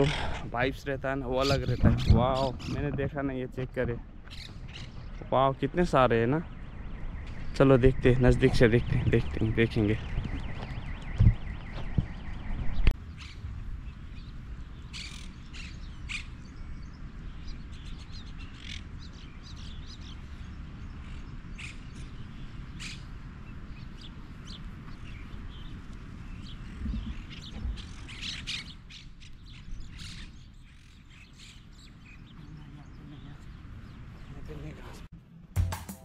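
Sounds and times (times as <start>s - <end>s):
flock of birds chirping and squawking: 0.0s - 13.4s, 14.2s - 35.1s.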